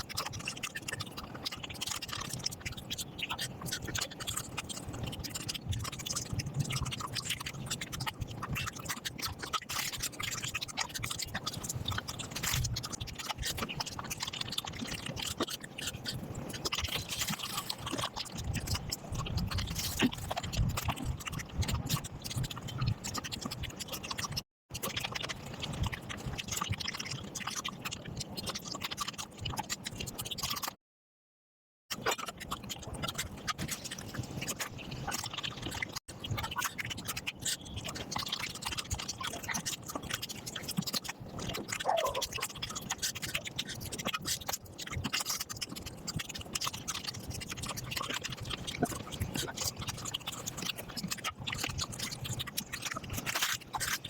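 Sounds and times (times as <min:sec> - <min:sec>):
sped-up mouth smacks and chewing: 0:00.0 - 0:30.8, 0:32.0 - 0:54.0.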